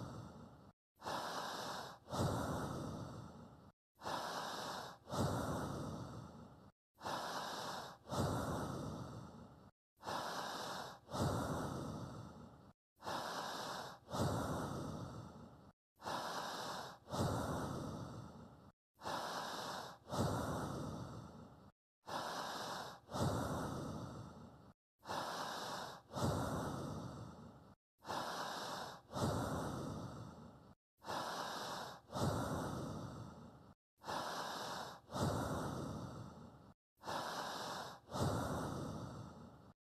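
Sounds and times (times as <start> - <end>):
person breathing slowly: 0.0 - 39.8.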